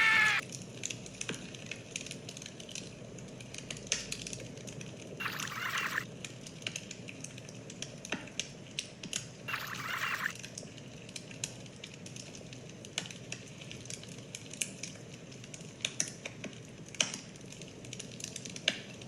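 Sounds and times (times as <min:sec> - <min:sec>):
wood fire crackling: 0:00.0 - 0:05.2, 0:06.0 - 0:09.5, 0:10.3 - 0:19.0.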